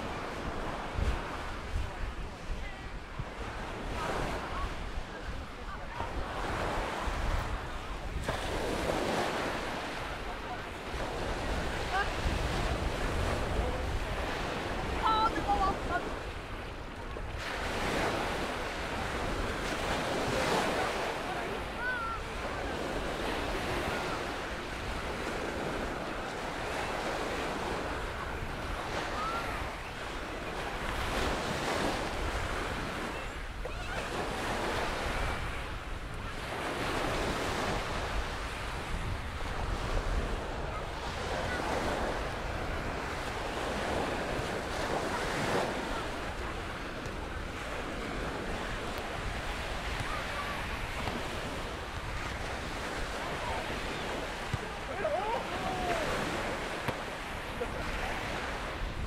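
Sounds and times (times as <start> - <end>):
surf washing onto beach: 0.0 - 59.0
wind buffeting microphone: 0.0 - 59.0.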